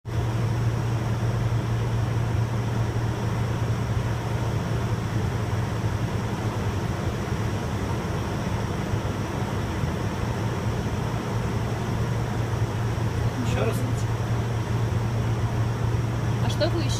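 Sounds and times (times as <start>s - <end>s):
airliner cabin drone: 0.1s - 16.9s.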